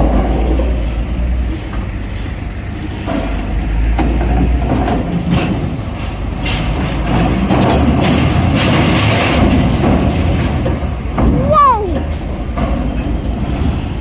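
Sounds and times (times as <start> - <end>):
heavy vehicle engines rumbling: 0.0 - 14.0.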